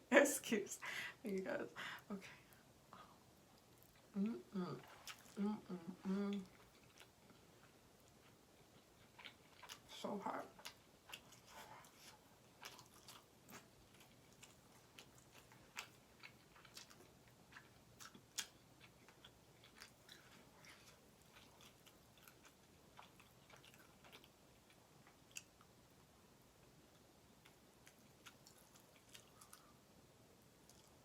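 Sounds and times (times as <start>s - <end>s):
quiet chewing: 2.0s - 31.0s.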